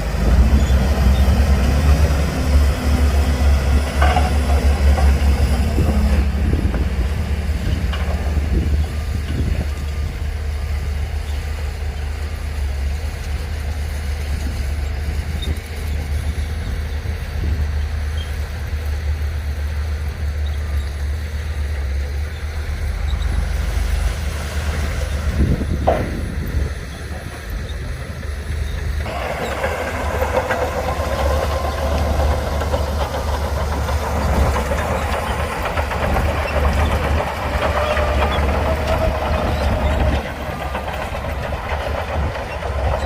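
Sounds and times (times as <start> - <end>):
heavy diesel engine rumbling: 0.0 - 43.0.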